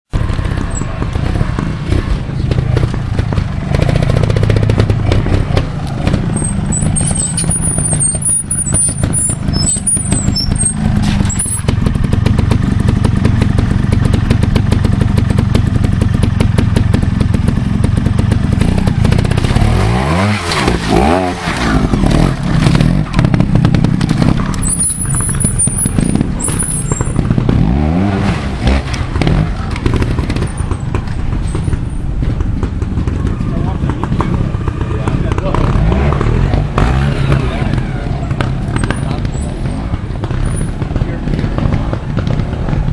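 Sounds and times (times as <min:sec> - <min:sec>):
motorcycle engine at low revs: 0:00.1 - 0:42.9
motorcycle throttle blips: 0:00.2 - 0:42.9.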